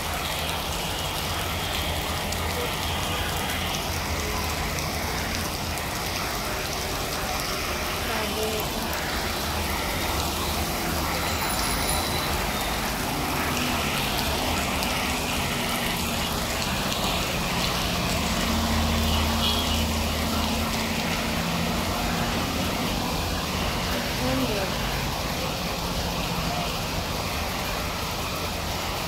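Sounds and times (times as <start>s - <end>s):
heavy rain on paving and rooftops: 0.0s - 29.0s.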